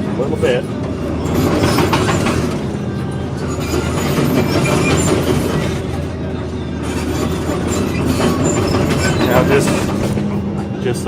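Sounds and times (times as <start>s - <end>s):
diesel engine running: 0.0s - 11.0s
steel tracks clanking and squeaking: 0.0s - 11.0s.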